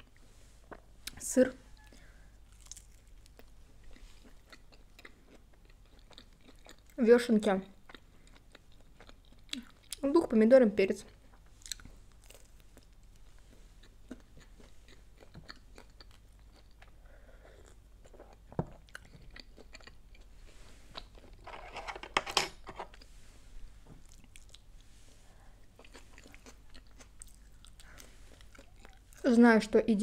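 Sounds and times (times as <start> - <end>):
chewing and crunching food: 0.0 - 10.3, 11.0 - 21.6, 22.9 - 29.3.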